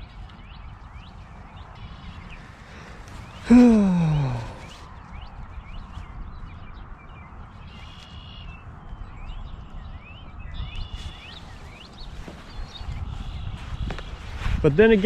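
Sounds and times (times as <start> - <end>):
whistled bird notes: 0.0 - 14.2
birds chirping: 0.0 - 15.0.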